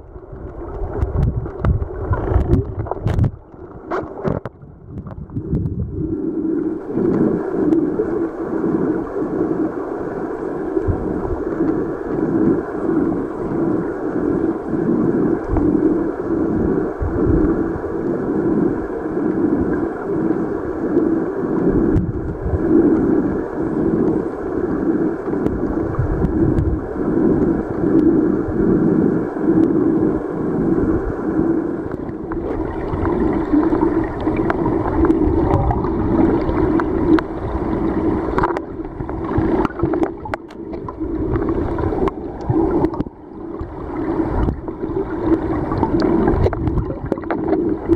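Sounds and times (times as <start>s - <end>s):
muffled creek water underwater: 0.0s - 47.9s
surging rumble: 0.0s - 47.9s.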